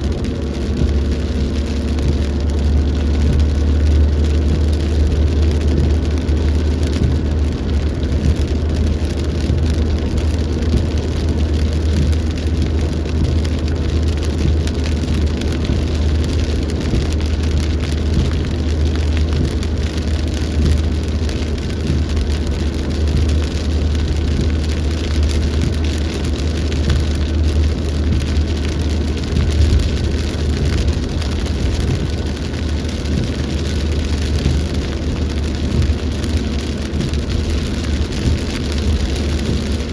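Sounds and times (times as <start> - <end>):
constant low rumble: 0.0 - 39.9
rain falling: 0.0 - 39.9.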